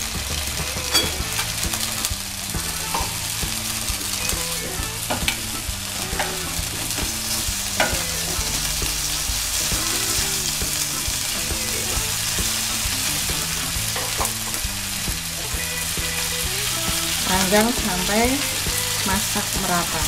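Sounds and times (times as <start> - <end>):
chicken wings sizzling in pan: 0.0 - 20.0.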